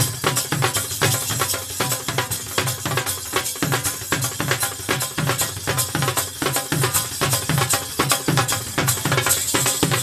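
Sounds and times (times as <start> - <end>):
dhol drums in fast rhythm: 0.0 - 10.0.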